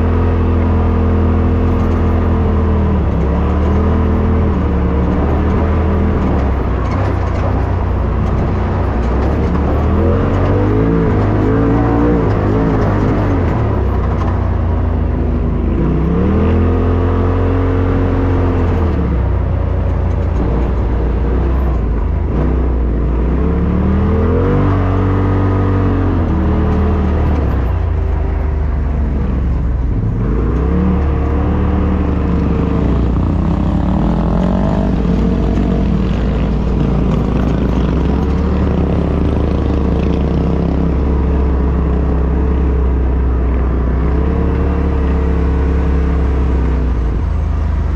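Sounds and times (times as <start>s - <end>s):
drivetrain low drone: 0.0s - 47.9s
engine revving: 0.0s - 47.9s.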